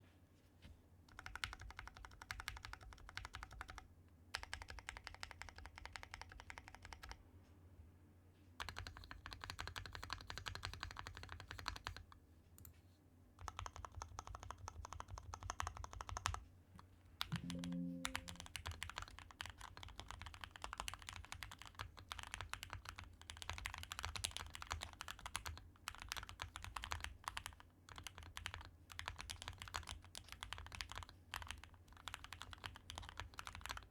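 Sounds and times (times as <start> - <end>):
mechanical keyboard typing: 1.1 - 7.2, 8.6 - 12.0, 13.4 - 16.4, 17.2 - 33.9.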